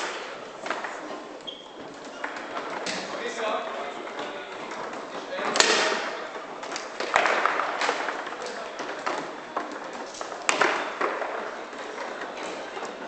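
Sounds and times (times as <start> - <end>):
foosball hitting plastic players: 0.0 - 13.0
low background noise: 0.0 - 13.0.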